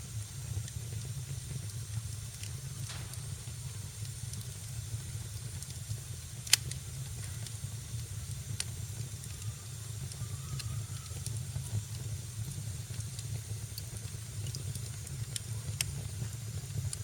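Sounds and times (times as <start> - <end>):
fire crackling pops: 0.0 - 17.0
fire rumbling and hissing: 0.0 - 17.0.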